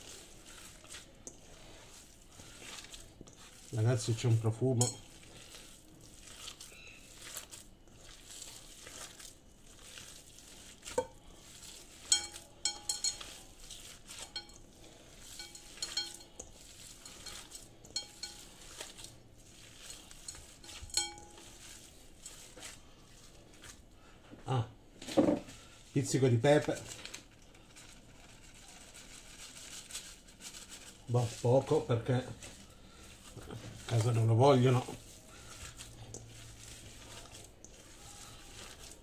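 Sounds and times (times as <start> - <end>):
hands squishing minced meat: 0.0 - 39.0.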